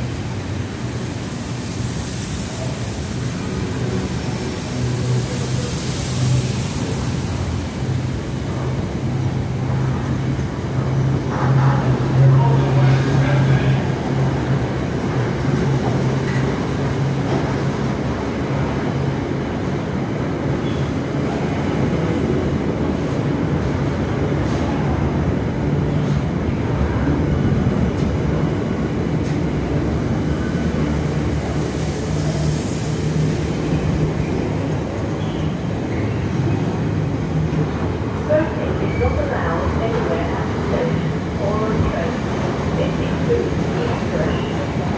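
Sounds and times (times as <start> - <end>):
train wheels on rails: 0.0 - 44.9.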